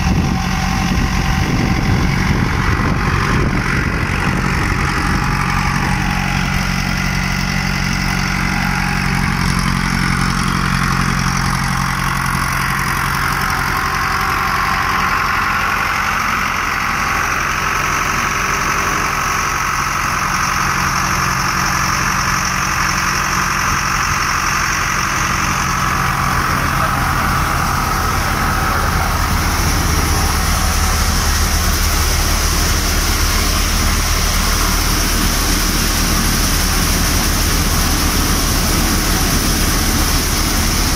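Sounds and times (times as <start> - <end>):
diesel tractor engine running: 0.0 - 40.9
thresher whirring: 0.0 - 40.9.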